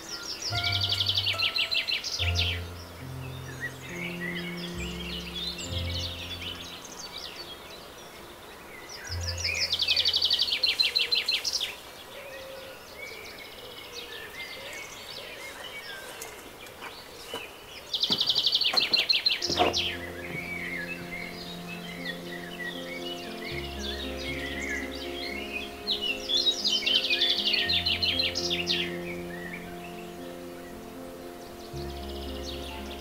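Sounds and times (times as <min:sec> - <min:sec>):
loud rapid trilled birdsong: 0:00.0 - 0:33.0
songbirds chirping: 0:00.0 - 0:33.0.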